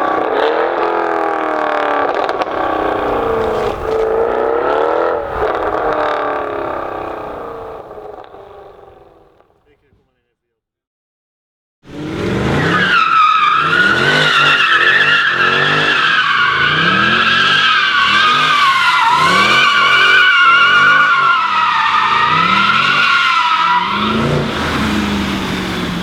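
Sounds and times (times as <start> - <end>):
tyres squealing: 0.0 - 8.3, 12.0 - 26.0
car engine revving: 0.0 - 9.8, 11.8 - 26.0.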